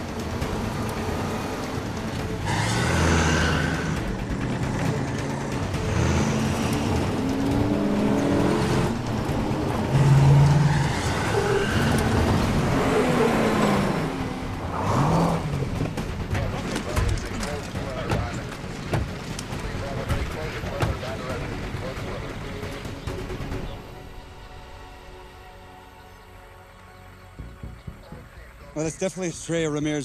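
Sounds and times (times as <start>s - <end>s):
vehicle engines revving: 0.0s - 24.2s.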